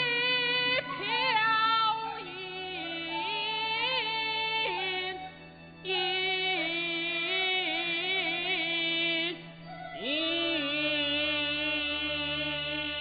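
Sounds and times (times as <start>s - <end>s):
low steady drone: 0.0s - 13.0s
ornamented opera melody: 0.0s - 13.0s.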